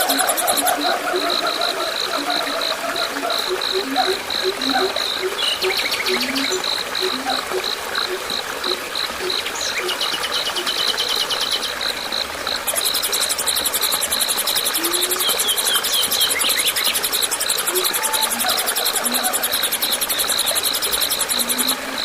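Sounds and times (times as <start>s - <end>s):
high rapid insect trill: 0.0s - 9.4s, 10.8s - 22.0s
cricket chirping: 0.0s - 22.0s.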